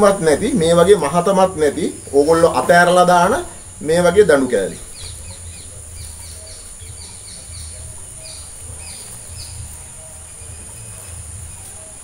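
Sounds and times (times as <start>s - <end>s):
high-pitched insect drone: 0.0s - 12.0s
small birds chirping: 0.0s - 12.0s.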